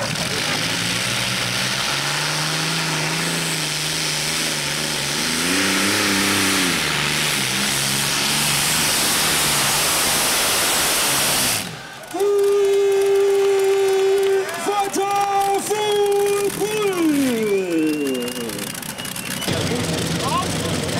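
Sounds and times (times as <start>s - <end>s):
turbine engine roaring: 0.0s - 20.9s.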